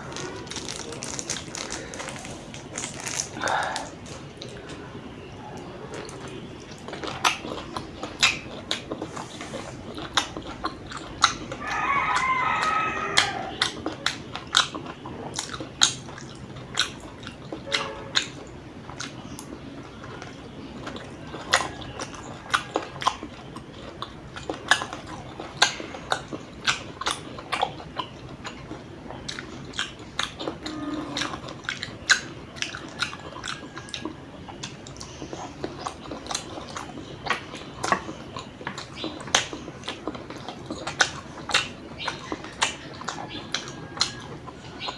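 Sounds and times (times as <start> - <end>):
person chewing wet mouth sounds: 0.0 - 44.9.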